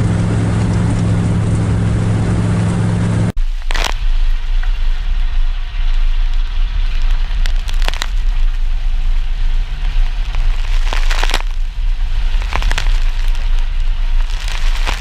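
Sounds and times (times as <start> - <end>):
mud and water spattering: 0.0 - 15.0
truck engine and tyre rumble: 0.0 - 15.0.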